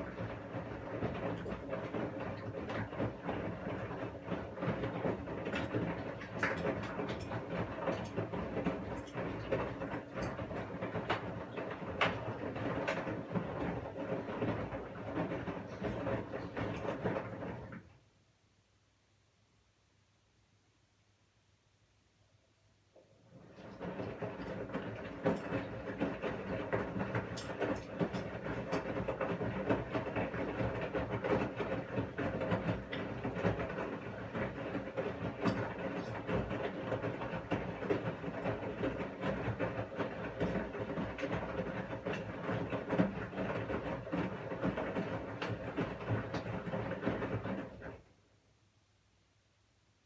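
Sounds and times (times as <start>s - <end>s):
washing machine drum churning: 0.0s - 17.9s, 23.3s - 48.0s.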